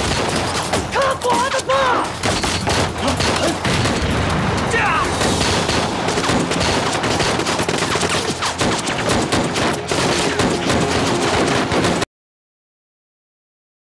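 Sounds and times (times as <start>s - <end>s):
rapid gunfire: 0.0s - 12.1s.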